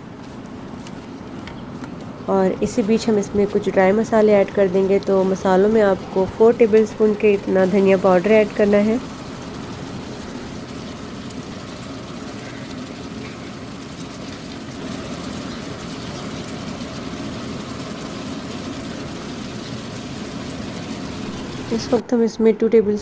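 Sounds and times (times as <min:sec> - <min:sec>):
pot cooking over high flame: 0:00.0 - 0:22.3.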